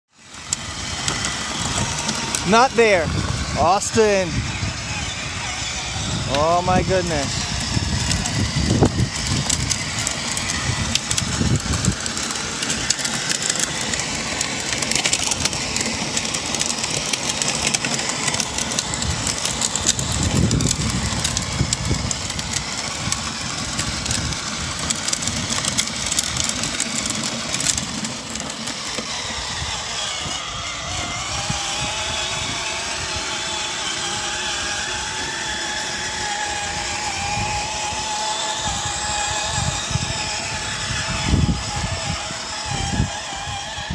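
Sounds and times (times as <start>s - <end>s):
electric toy motor whining: 0.1s - 43.9s
plastic wheels rolling on pavement: 0.1s - 43.9s.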